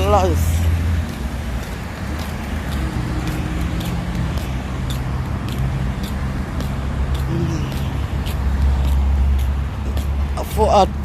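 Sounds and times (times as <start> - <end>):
footsteps walking briskly: 0.0 - 11.0
road traffic rumble: 0.0 - 11.0.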